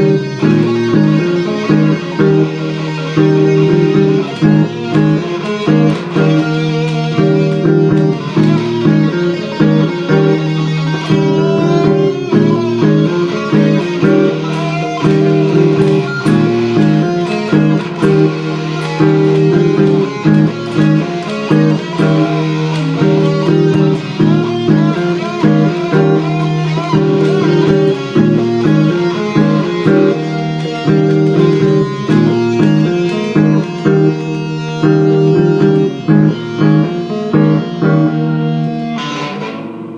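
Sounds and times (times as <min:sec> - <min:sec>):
electric guitar lead with bent notes: 0:00.0 - 0:39.9
looped guitar chords: 0:00.0 - 0:39.9.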